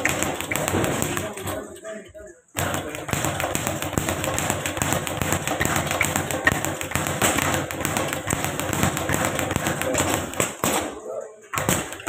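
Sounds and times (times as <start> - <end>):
speed bag rattling: 0.0 - 12.0.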